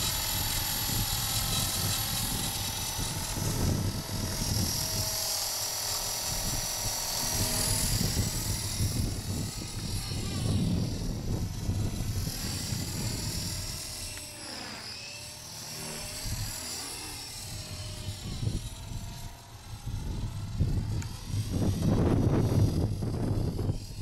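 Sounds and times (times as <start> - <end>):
rc helicopter motor whine: 0.0 - 24.0
wind rumbling on microphone: 0.0 - 24.0.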